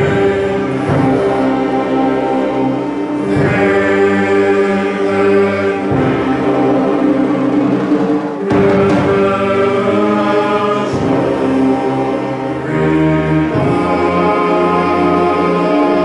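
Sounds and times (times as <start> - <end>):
sharp percussion stroke: 0.0 - 14.5
male chorus singing: 0.0 - 16.0
orchestra and wind band: 0.0 - 16.0.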